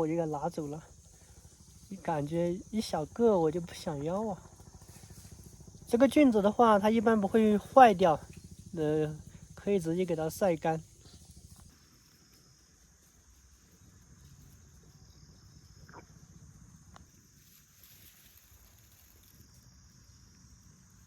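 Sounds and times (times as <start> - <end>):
high-pitched insect chirring: 0.0 - 21.0.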